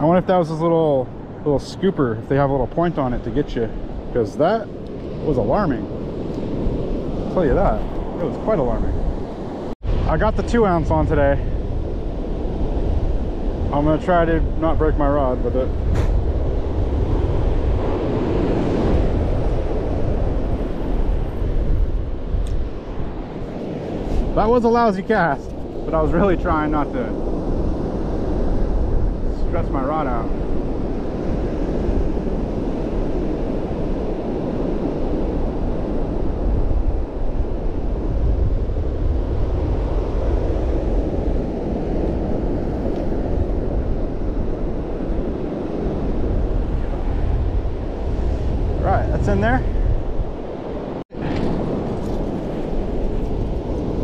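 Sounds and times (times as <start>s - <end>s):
ocean surf breaking: 0.0s - 54.0s
wind buffeting microphone: 0.0s - 54.0s.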